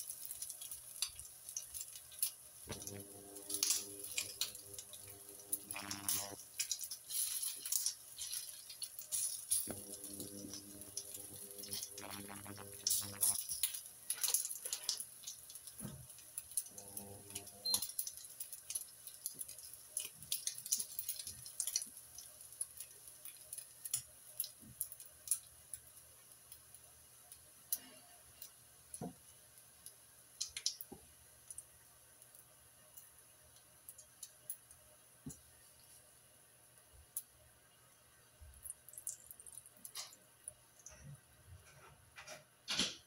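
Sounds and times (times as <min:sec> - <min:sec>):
bacon sizzling in a frying pan: 0:00.0 - 0:35.4.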